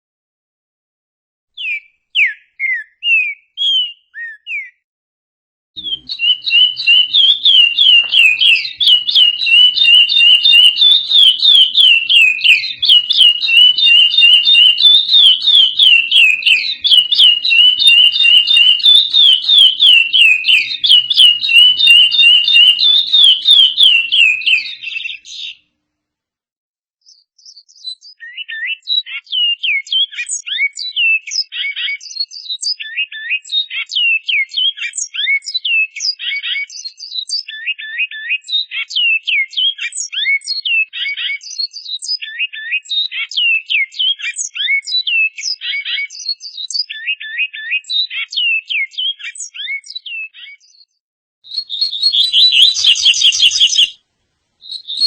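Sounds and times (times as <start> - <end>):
songbird singing: 1.6 - 4.8, 5.8 - 25.6, 27.0 - 54.0, 54.6 - 55.0.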